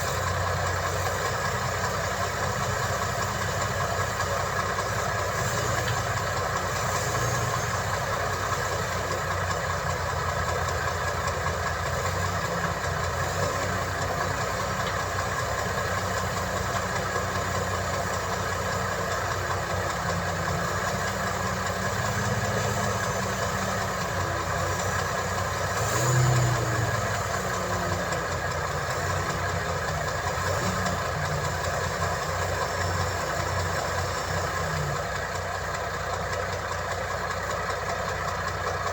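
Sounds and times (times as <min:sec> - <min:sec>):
heavy machinery diesel engine: 0:00.0 - 0:38.9.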